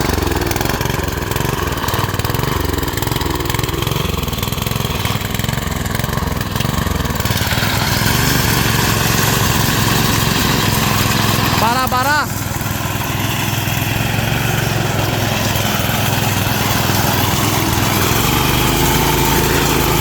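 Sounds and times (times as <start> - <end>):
small reaper engine running: 0.0 - 20.0.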